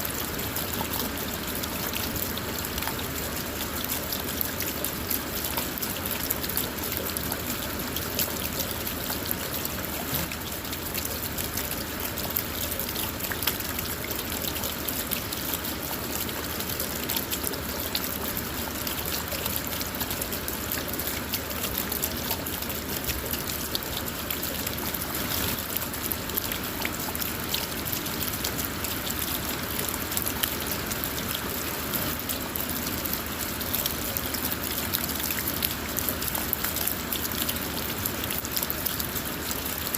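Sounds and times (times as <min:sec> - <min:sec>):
rain hissing on a car: 0:00.0 - 0:39.9
raindrops ticking: 0:00.1 - 0:39.9.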